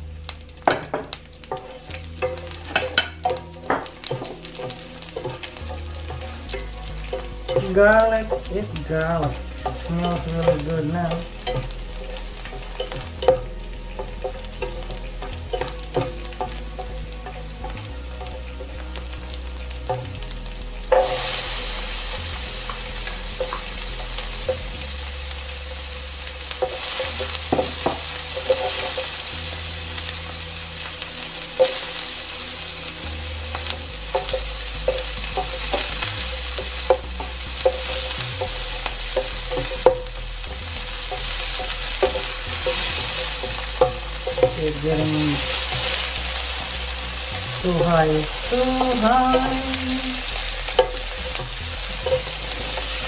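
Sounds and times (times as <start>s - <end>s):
oil sizzling in a pan: 0.0s - 53.0s
spatula scraping a pan: 0.6s - 30.4s, 31.2s - 53.0s.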